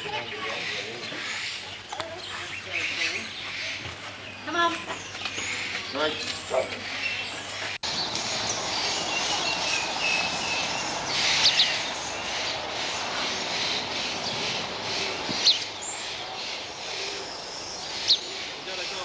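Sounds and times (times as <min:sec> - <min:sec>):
birds chirping: 0:00.0 - 0:19.0
outdoor background hiss: 0:00.0 - 0:19.0.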